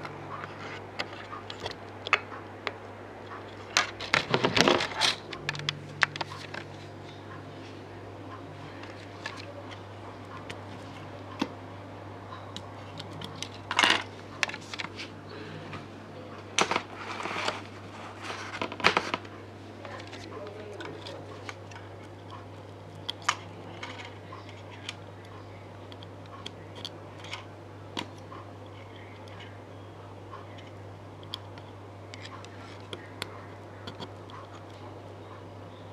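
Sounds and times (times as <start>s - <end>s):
low electrical hum: 0.0s - 35.9s.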